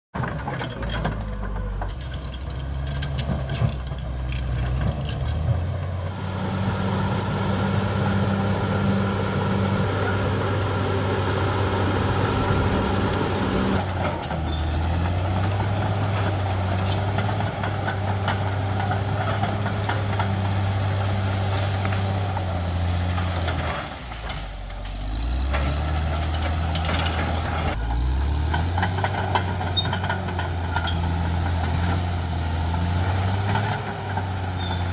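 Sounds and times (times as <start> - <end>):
bulldozer diesel engine under load: 0.1 - 34.9.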